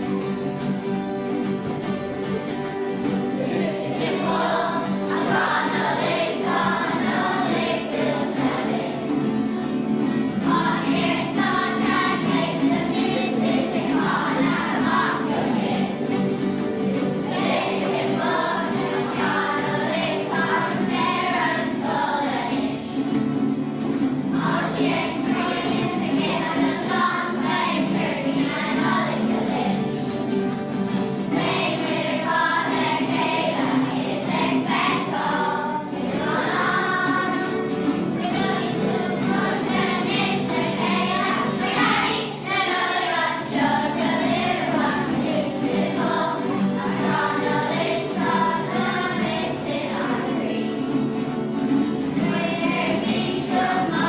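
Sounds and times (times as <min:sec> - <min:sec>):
children's choir singing: 0:00.0 - 0:54.0
strummed acoustic guitars: 0:00.0 - 0:54.0.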